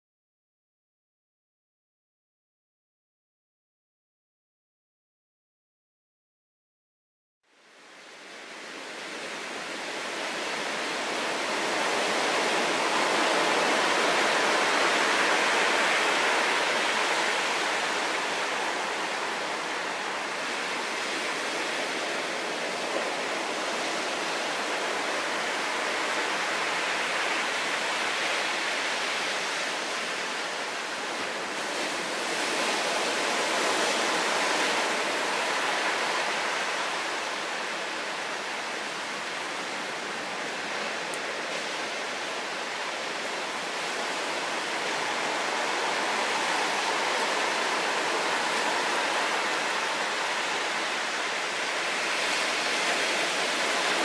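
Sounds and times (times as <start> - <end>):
big waves breaking on rocks: 8.5 - 54.0.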